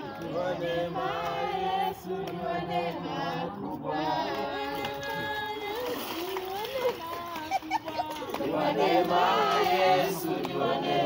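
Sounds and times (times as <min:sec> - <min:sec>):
group of people singing: 0:00.0 - 0:11.0.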